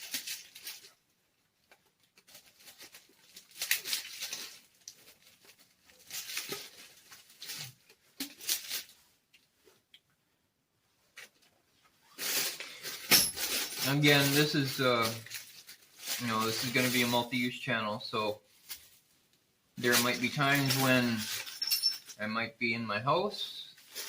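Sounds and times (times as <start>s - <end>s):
plastic bag crinkling and rustling: 0.0s - 9.8s, 11.1s - 17.7s, 18.3s - 19.2s, 19.8s - 22.2s, 23.7s - 24.0s.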